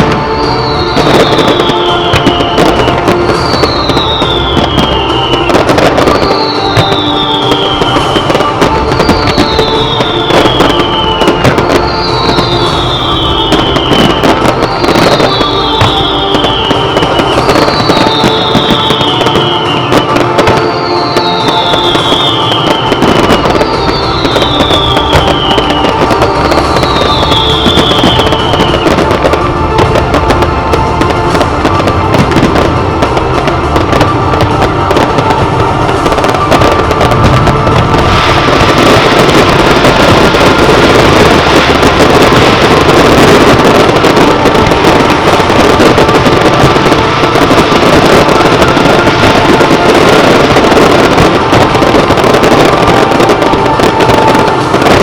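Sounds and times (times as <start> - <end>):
fireworks bangs and crackles: 0.0 - 55.0
loud music: 0.0 - 55.0.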